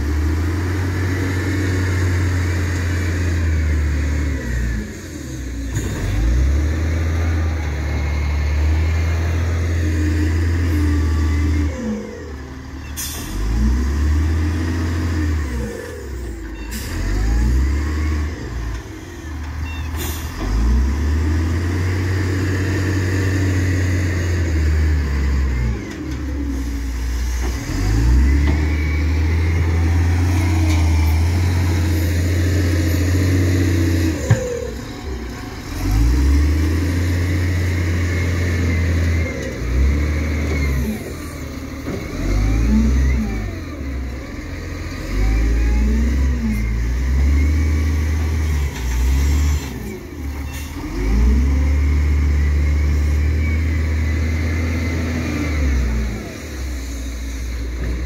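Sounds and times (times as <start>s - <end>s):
heavy machine engine revving: 0.0s - 58.0s.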